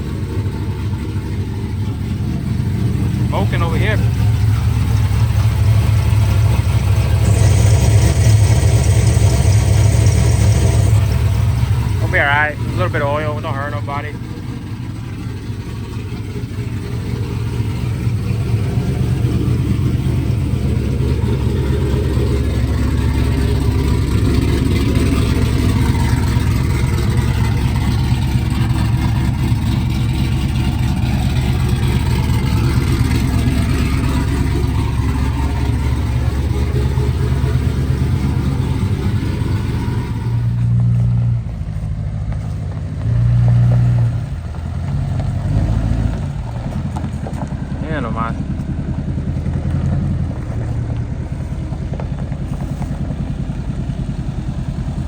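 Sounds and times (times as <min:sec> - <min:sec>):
deep steady low notes: 0:00.0 - 0:46.8
pickup truck engine running: 0:00.0 - 0:55.0.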